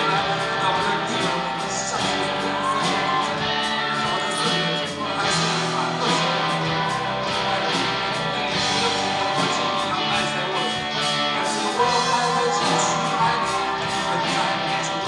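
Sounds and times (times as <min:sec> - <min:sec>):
electric guitars: 0:00.0 - 0:15.0
person singing into microphone: 0:00.0 - 0:15.0
steady drum beat: 0:00.0 - 0:15.0.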